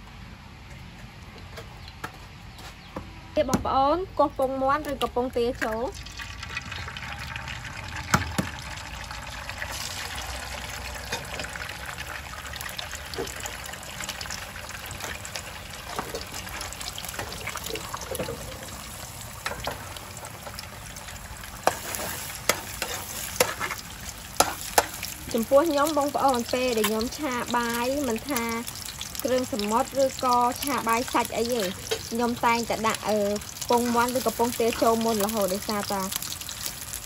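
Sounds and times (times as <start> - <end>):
eggs sizzling in hot oil: 4.3 - 37.0.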